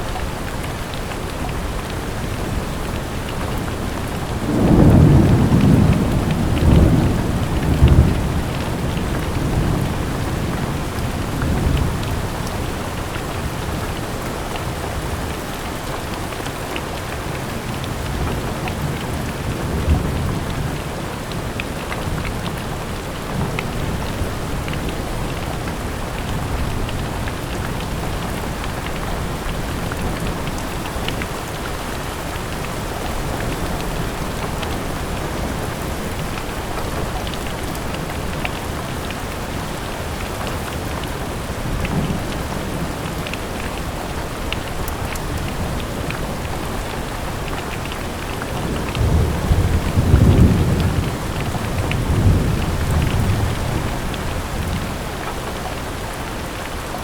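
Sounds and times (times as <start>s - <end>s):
light rain: 0.0s - 57.0s
low rumble of thunder: 1.5s - 15.3s, 17.2s - 55.4s.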